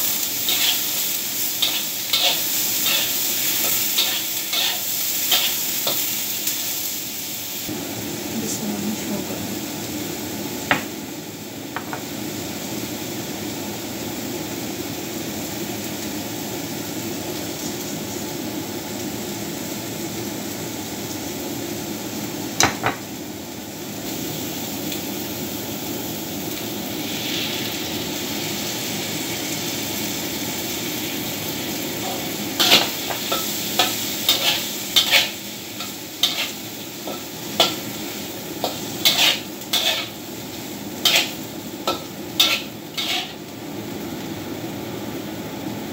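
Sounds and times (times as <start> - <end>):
mushrooms sizzling in a wok: 0.0 - 45.9.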